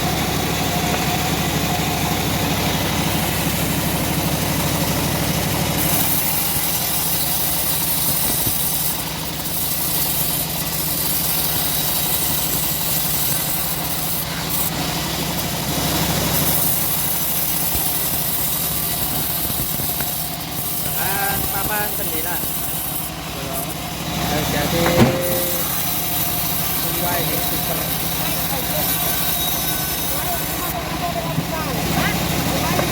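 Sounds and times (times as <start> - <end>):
bandsaw mill engine drone: 0.0 - 32.9
saw blade rasping through wood: 2.1 - 32.9.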